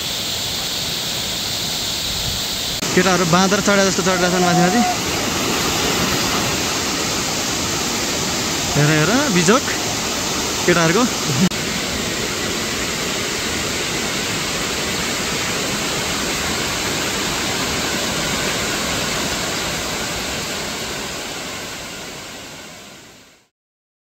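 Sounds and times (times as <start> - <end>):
steady rushing noise: 1.4 - 22.0.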